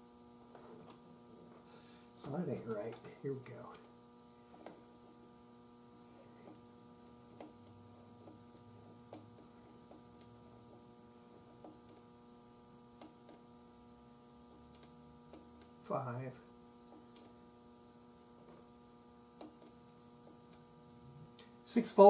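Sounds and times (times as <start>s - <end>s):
faint electrical mains hum: 0.0s - 22.0s.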